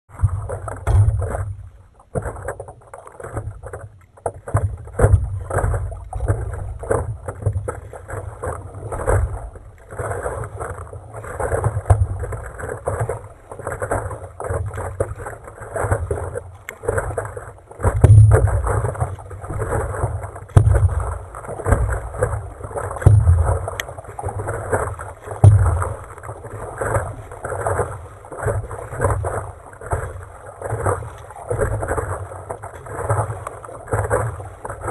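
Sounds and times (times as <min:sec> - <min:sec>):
paddle strokes splashing: 0:00.1 - 0:34.9
water slapping against board: 0:00.1 - 0:34.9.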